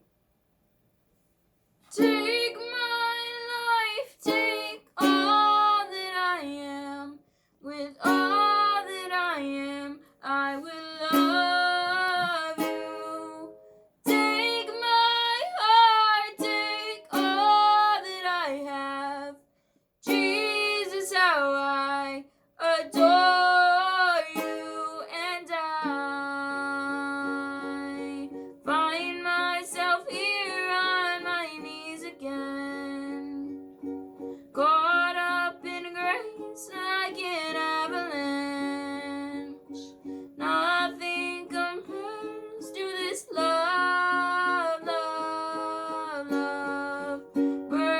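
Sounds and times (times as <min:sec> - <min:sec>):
plucked acoustic string instrument: 0:01.9 - 0:07.1, 0:07.7 - 0:19.3, 0:20.0 - 0:47.9.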